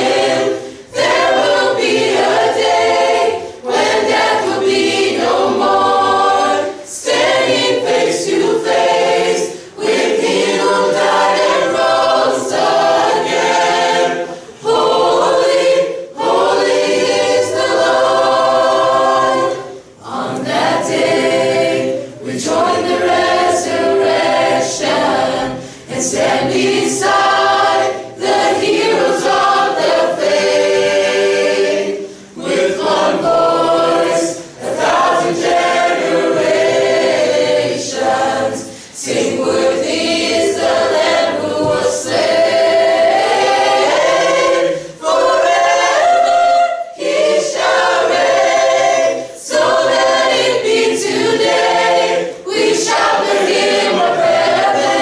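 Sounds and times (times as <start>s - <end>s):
choir singing unaccompanied: 0.0s - 55.0s.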